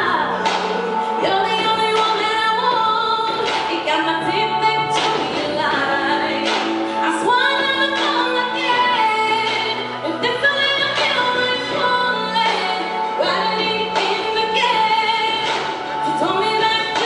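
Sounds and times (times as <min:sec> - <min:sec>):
woman singing with accompaniment: 0:00.0 - 0:17.0.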